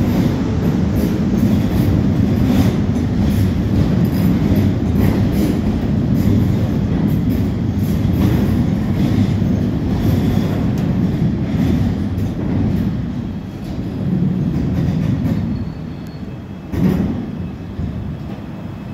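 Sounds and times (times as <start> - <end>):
train wheels clickety-clack over rail joints: 0.0 - 18.9.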